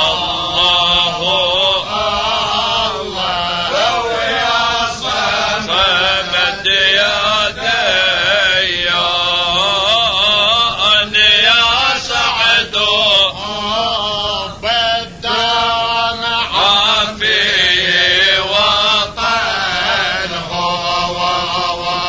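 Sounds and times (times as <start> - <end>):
man chanting: 0.0 - 22.0.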